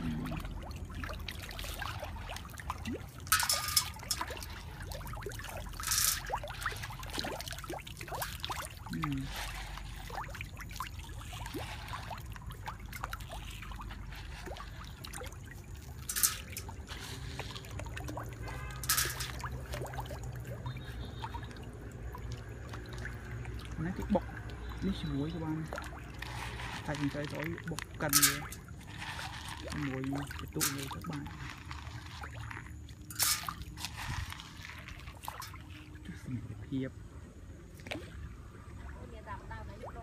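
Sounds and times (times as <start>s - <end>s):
fish splashing: 0.0s - 40.0s
water trickling and lapping: 0.0s - 40.0s.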